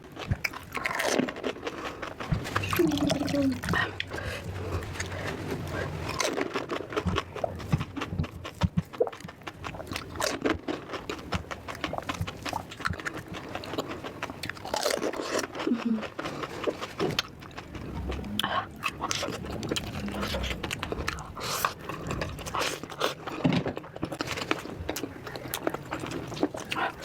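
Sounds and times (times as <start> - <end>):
person chewing crunchy food: 0.0 - 27.0.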